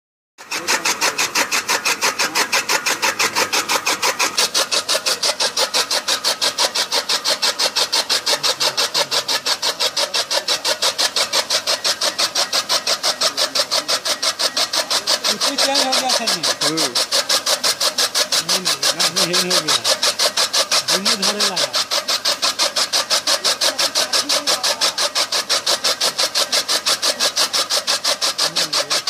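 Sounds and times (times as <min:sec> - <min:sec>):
chaff cutter chopping straw: 0:00.4 - 0:29.0.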